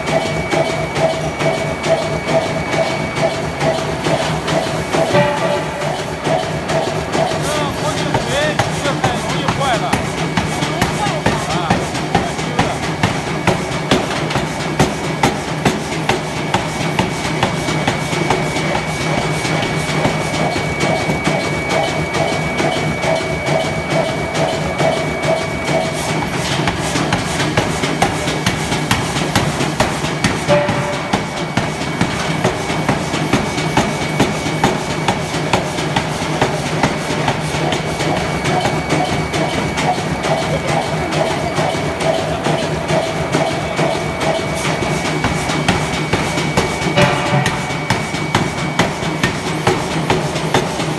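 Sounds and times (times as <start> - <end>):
air hammer pounding steel: 0.0 - 50.9.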